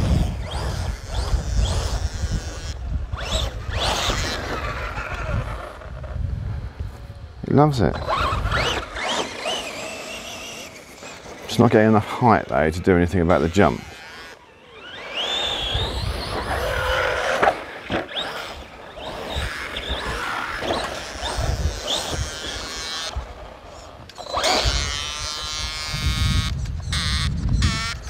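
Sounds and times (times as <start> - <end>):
electric motor whining: 0.0 - 28.0
steady buzzing tone: 0.0 - 28.0.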